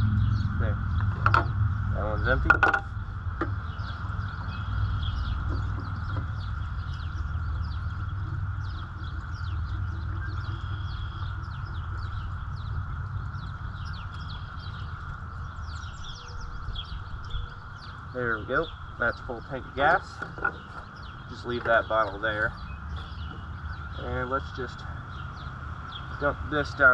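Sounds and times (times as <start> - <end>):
bird chirps: 0.0 - 26.9
low rumble: 0.0 - 26.9.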